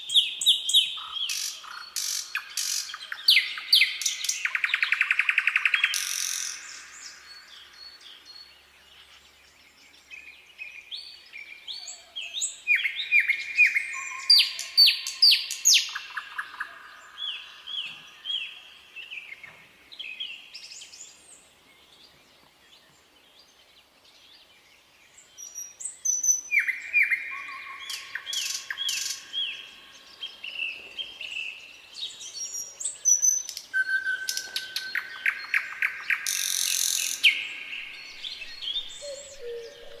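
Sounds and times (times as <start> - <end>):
nightingale singing: 0.0 - 21.9, 25.1 - 40.0.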